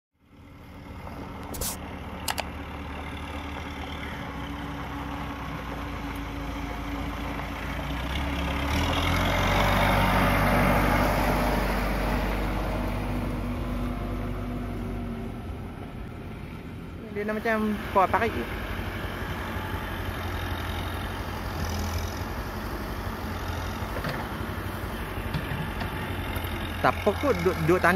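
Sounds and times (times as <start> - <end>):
diesel engine running: 0.2 - 27.9.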